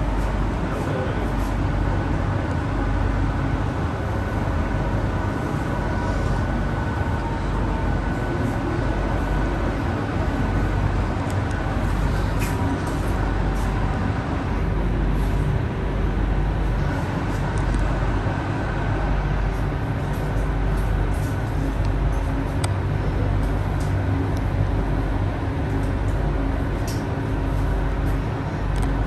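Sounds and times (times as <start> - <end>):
faint drive whine: 0.0 - 29.0
rumble of wheels on rail: 0.0 - 29.0.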